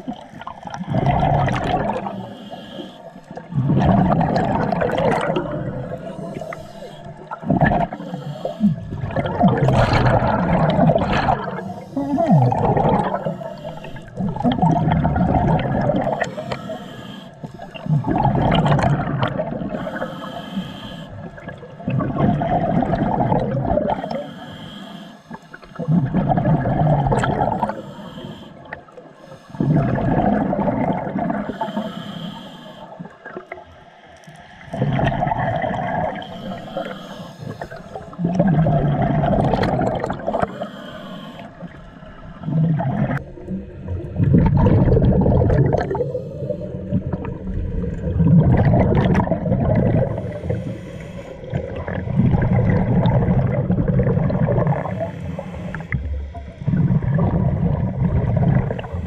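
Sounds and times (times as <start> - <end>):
gurgling bubbles: 0.0 - 24.4, 25.3 - 32.2, 34.5 - 59.0.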